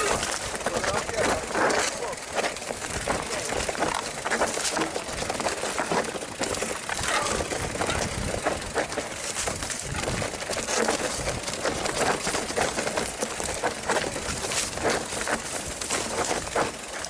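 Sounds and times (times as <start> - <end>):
bike chain and frame rattling: 0.0 - 17.0
bike tyres on dirt trail: 0.0 - 17.0.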